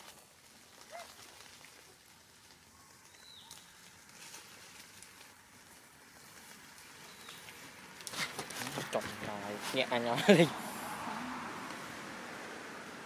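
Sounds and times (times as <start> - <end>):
rustling of dry leaf litter: 0.0 - 13.0.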